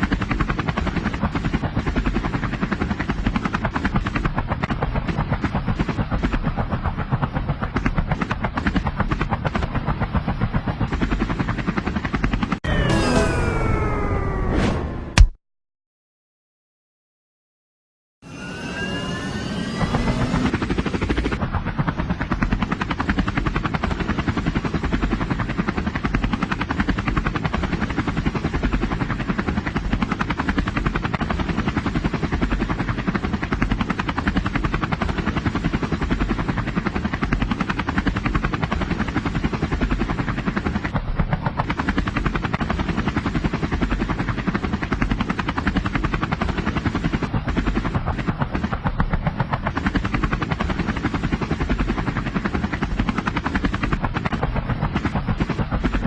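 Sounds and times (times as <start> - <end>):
helicopter rotor chopping: 0.0 - 15.3, 18.2 - 56.0.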